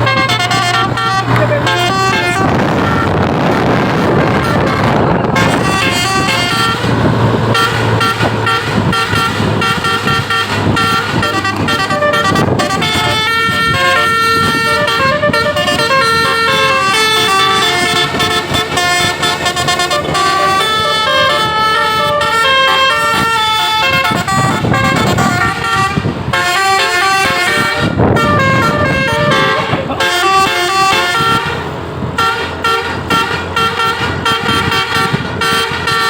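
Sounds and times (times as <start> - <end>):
musical air horn melody: 0.0 - 36.0
vehicle noise: 0.0 - 36.0.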